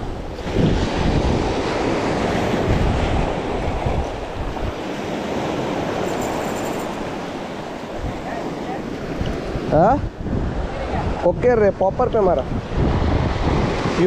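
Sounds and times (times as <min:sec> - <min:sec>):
surf washing over rocks: 0:00.0 - 0:14.0
wind buffeting microphone: 0:00.0 - 0:14.0.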